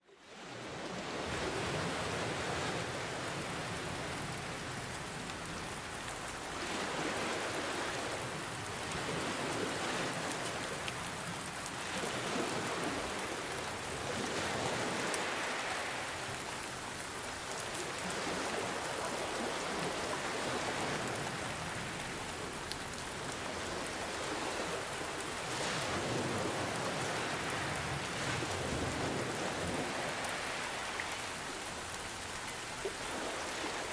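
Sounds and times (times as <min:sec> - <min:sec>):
steady rain falling: 0:00.0 - 0:33.9
ocean waves: 0:00.1 - 0:33.9.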